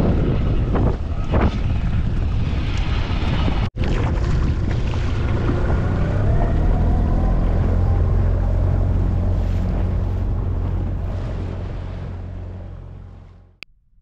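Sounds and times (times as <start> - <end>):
wind rumble on microphone: 0.0 - 13.6.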